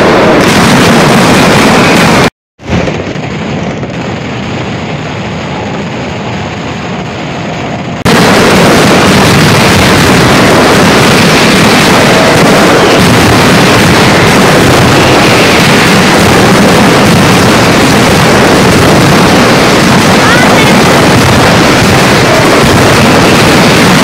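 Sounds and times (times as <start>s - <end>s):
firecrackers barrage: 0.0s - 24.0s.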